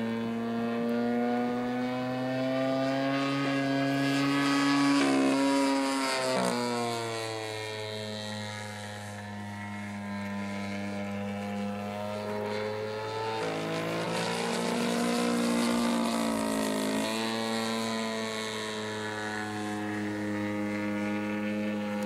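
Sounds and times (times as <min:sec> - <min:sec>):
model airplane engine: 0:00.0 - 0:22.0.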